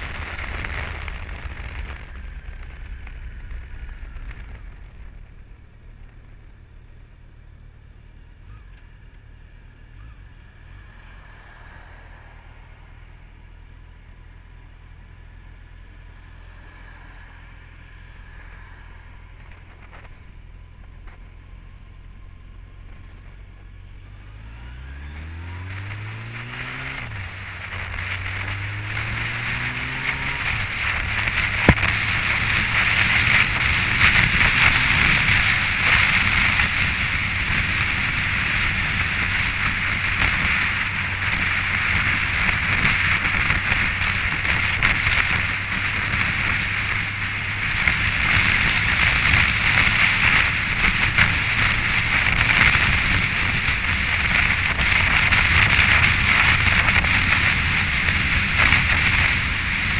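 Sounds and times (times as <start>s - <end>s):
wind rushing on microphone: 0.0s - 6.4s, 10.0s - 21.6s, 22.2s - 59.9s
motorcycle engine accelerating: 0.0s - 59.9s.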